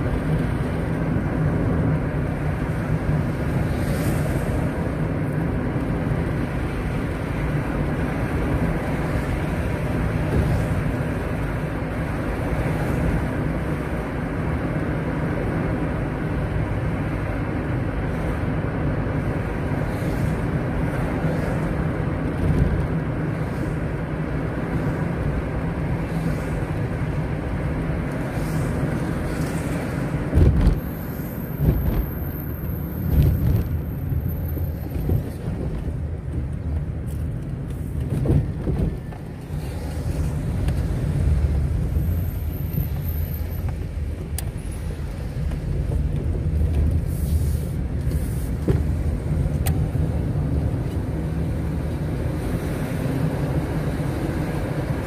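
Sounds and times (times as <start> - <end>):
vehicle engine and tyre rumble: 0.0 - 55.0.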